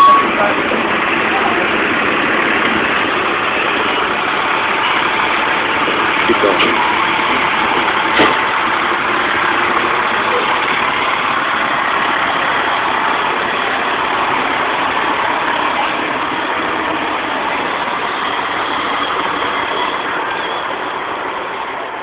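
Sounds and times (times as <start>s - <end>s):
diesel engines of passing trucks: 0.0s - 22.0s.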